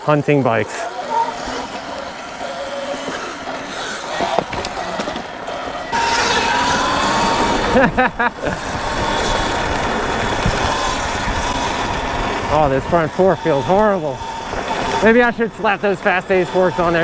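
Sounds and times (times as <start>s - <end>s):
electric dirt bike riding: 0.0s - 17.0s
electric motor whine: 0.0s - 17.0s.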